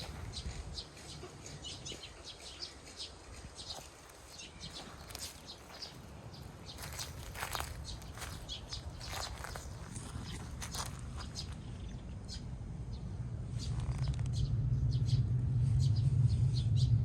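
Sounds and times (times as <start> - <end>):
low steady rumble: 0.0 - 17.0
small birds chirping: 0.0 - 17.0.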